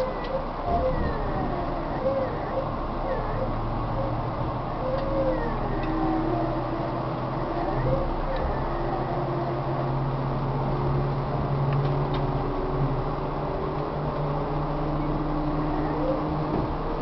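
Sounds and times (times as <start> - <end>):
higher train tone: 0.0 - 17.0
train interior rumble: 0.0 - 17.0.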